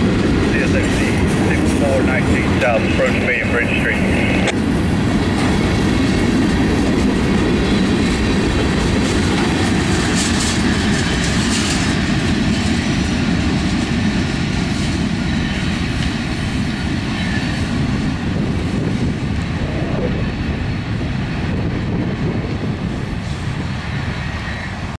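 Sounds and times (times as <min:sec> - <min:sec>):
freight train wheels rumbling on rail: 0:00.0 - 0:25.0.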